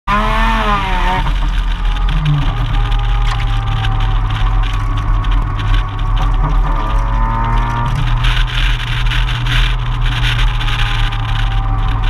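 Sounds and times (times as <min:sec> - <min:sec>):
engine exhaust crackle: 0:00.1 - 0:12.0.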